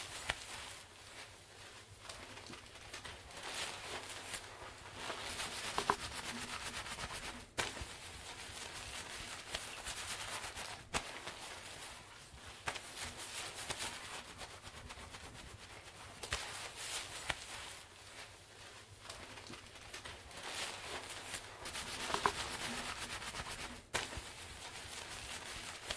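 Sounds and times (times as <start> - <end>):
wet hair rustling: 0.0 - 25.9.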